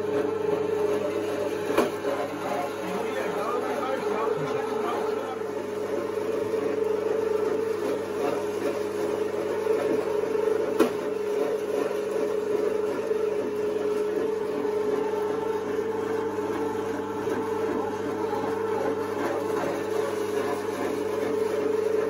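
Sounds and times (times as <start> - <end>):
electric meat grinder running: 0.0 - 22.0.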